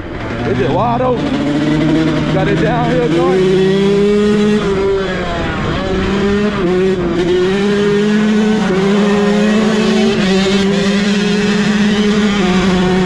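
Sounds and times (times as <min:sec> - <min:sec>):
dirt bike engine at high revs: 0:00.0 - 0:13.0.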